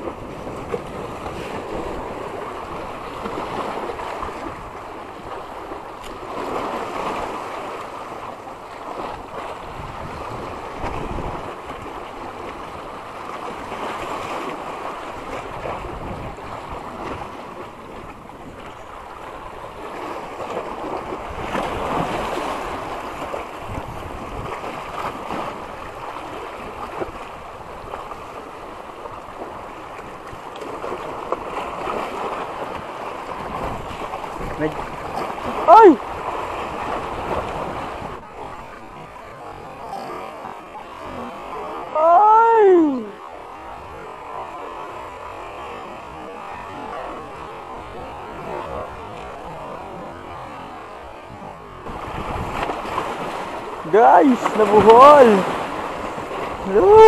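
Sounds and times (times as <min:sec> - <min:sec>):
sea water washing on shore: 0:00.0 - 0:57.0
wind on microphone: 0:00.0 - 0:57.0.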